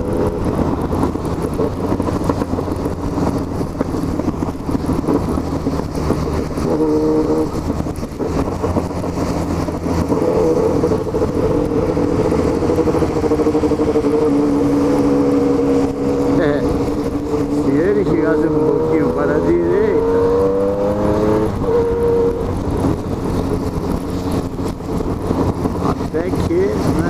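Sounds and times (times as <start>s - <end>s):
motorcycle engine cruising: 0.0s - 27.0s
wet road noise: 0.0s - 27.0s
wind noise: 0.0s - 27.0s.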